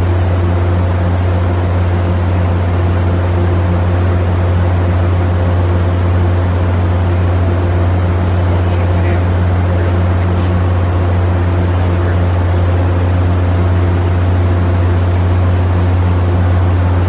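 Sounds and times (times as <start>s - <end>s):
idling train low hum: 0.0s - 17.0s.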